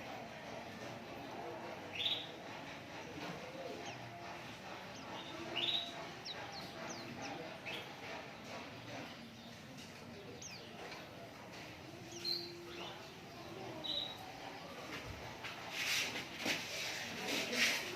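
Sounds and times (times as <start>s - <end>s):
small birds chirping: 0.1s - 17.9s.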